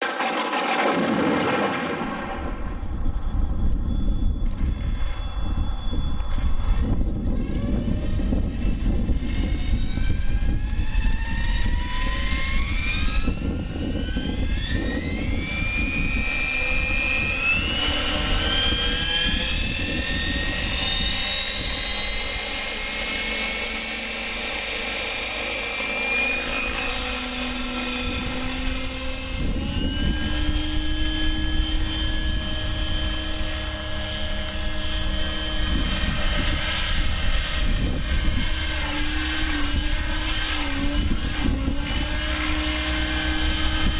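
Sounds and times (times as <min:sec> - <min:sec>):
model helicopter whine: 0:00.0 - 0:43.9
wind rumble on microphone: 0:01.1 - 0:22.9, 0:26.7 - 0:43.9.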